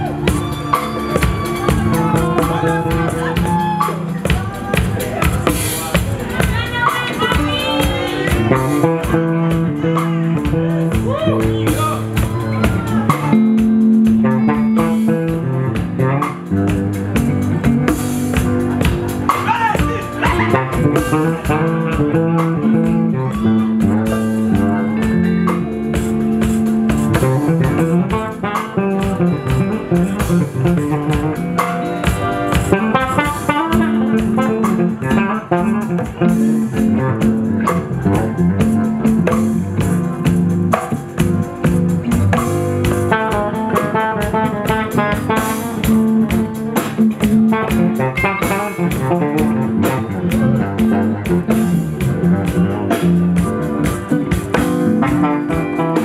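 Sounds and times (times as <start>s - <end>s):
drum kit: 0.0s - 56.0s
electric bass plucked fingerstyle: 0.0s - 56.0s
electric guitar: 0.0s - 56.0s.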